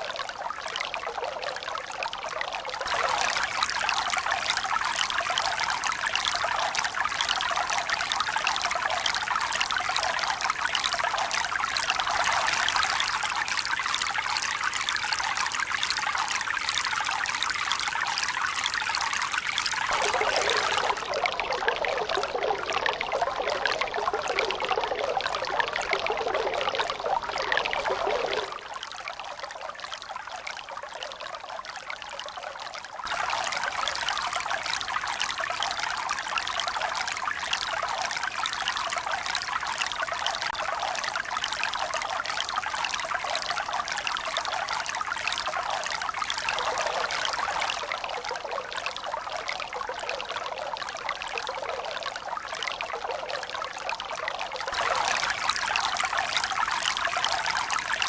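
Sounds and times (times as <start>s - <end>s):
water trickling and pouring: 0.0s - 58.0s.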